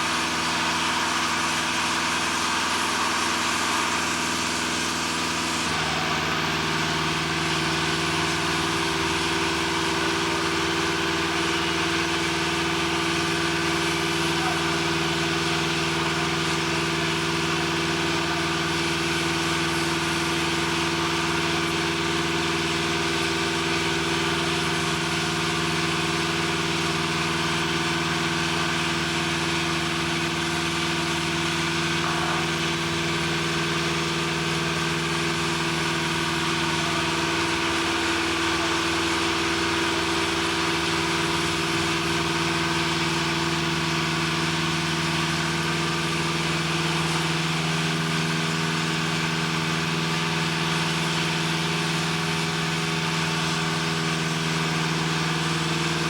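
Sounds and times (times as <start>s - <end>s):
machinery drone: 0.0s - 54.8s.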